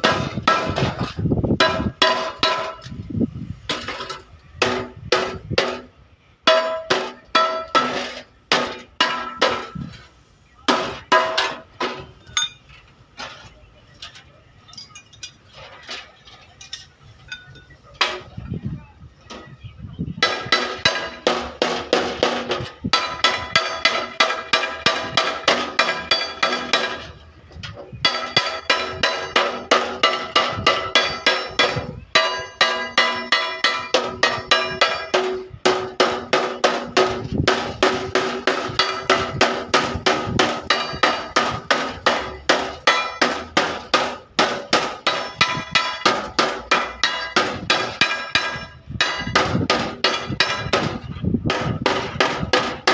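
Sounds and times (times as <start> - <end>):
hammer beating sheet steel: 0.0 - 3.0, 3.7 - 5.9, 6.5 - 10.0, 10.7 - 12.6, 20.2 - 27.2, 28.0 - 52.9.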